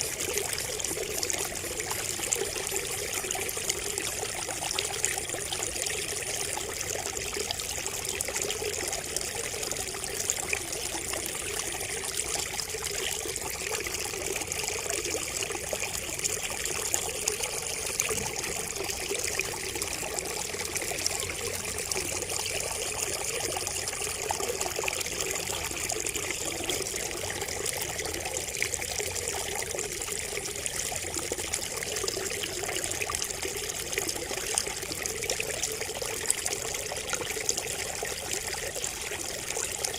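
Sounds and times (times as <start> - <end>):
water trickling from bamboo spout: 0.0 - 39.9.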